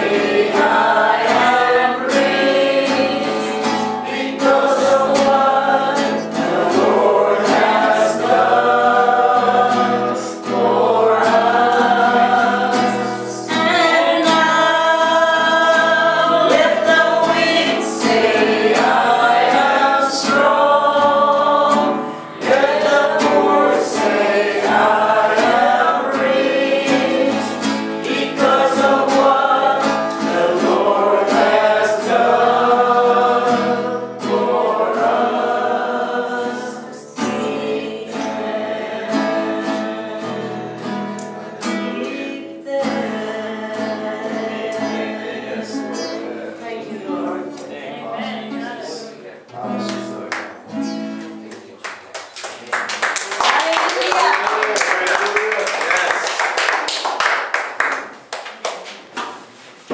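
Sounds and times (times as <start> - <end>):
group singing: 0.0 - 50.9
strummed acoustic guitar: 0.0 - 51.5.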